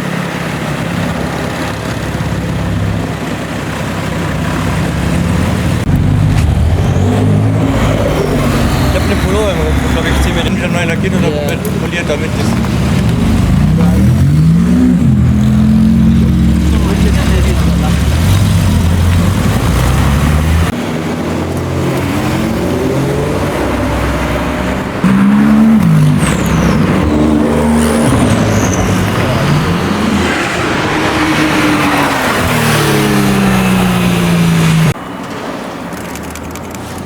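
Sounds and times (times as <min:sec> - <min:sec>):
supercar engines revving: 0:00.0 - 0:35.1.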